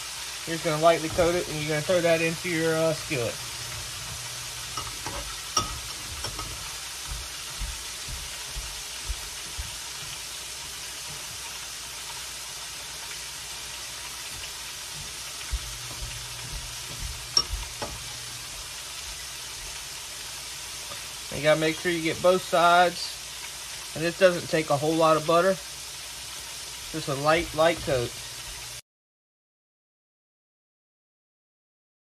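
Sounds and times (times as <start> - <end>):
bread sizzling in a skillet: 0.0 - 28.8.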